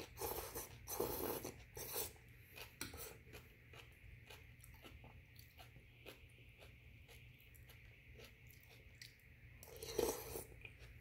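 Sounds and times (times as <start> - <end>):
soft chewing and mouth sounds: 0.0 - 11.0.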